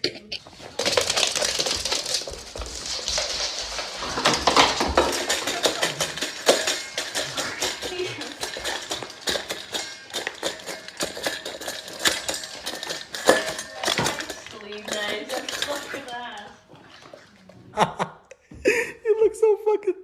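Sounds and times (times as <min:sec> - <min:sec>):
hard objects clattering together: 0:00.1 - 0:17.3.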